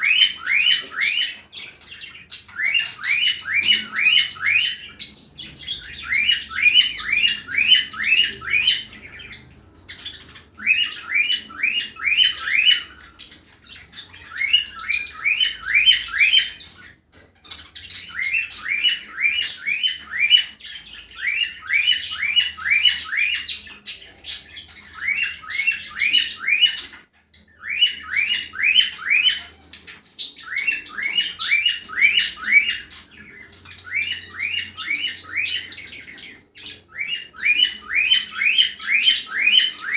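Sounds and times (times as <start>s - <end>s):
cockatiel chirping squawks: 0.0s - 39.9s.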